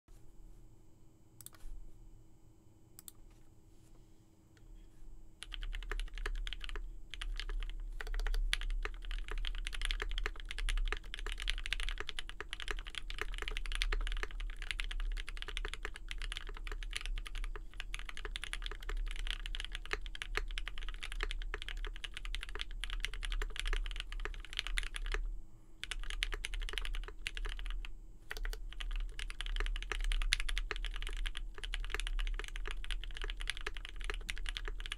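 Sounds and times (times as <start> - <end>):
mechanical keyboard typing: 5.4 - 25.2, 25.8 - 34.9.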